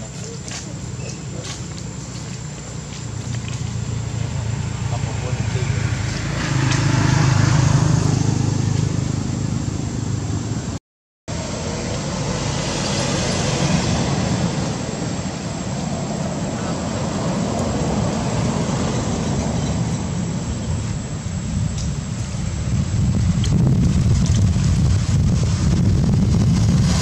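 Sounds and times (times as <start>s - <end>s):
outdoor low rumble: 0.0s - 27.0s.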